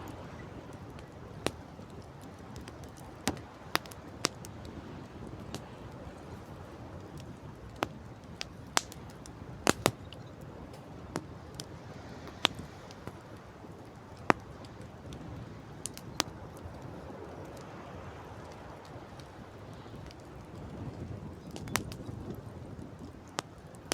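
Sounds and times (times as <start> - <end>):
campfire crackling and popping: 0.0 - 23.9
wind: 0.0 - 23.9.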